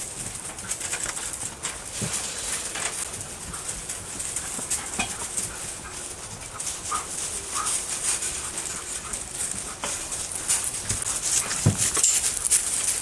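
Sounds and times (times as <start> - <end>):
paws scuffling on gravel: 0.0 - 13.0.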